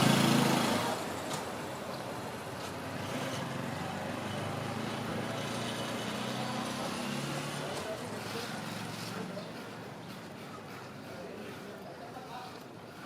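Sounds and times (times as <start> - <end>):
background traffic noise: 0.0 - 13.0.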